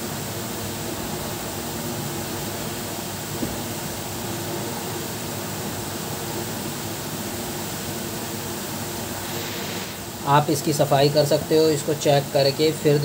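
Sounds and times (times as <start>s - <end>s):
fan hiss with low hum: 0.0s - 13.0s.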